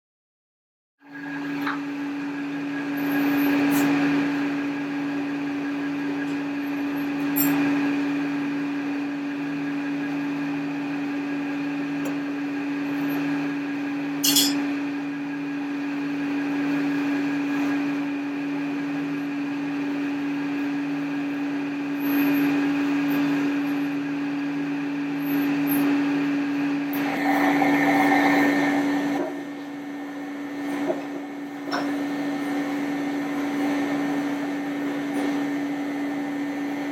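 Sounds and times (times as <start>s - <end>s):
steady machine hum: 1.0s - 36.9s.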